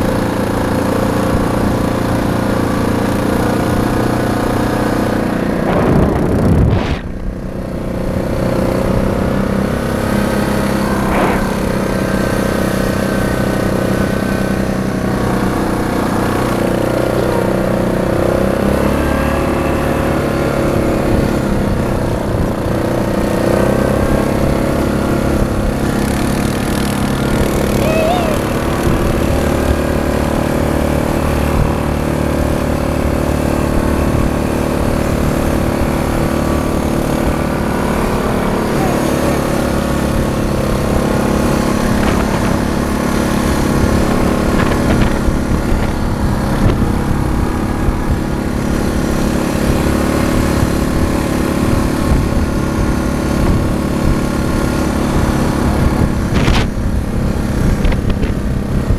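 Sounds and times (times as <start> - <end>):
quad bike engine running: 0.0 - 58.9.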